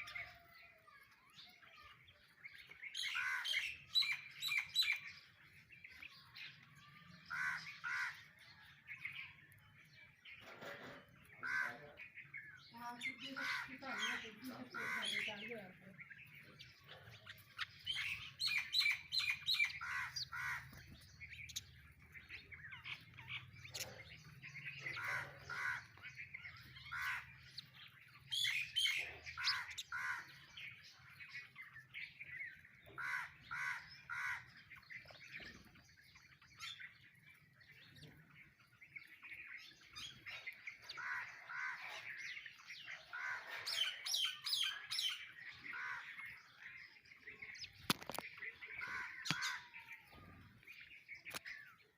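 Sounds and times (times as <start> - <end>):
other birds calling: 0.0 - 51.9
sparrows chirping: 0.0 - 51.9.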